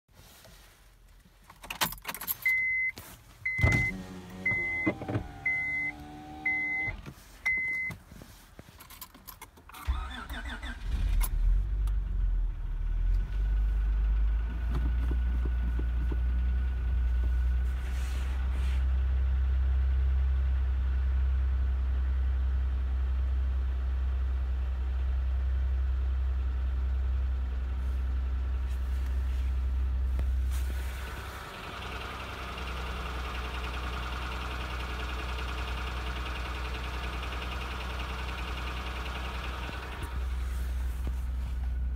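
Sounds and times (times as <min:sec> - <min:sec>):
car engine cranking and idling: 0:00.2 - 0:41.9.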